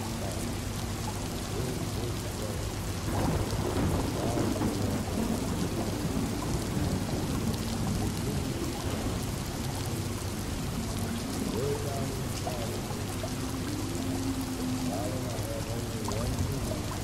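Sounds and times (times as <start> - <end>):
distant thunder rumble: 0.0 - 17.0
rain against windows: 0.0 - 17.0.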